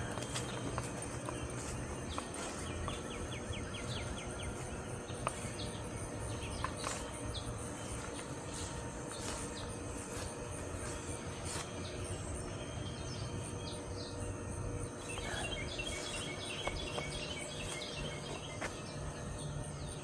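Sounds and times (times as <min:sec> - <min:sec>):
bird chirps: 0:00.0 - 0:20.0
high insect hum: 0:00.0 - 0:20.0.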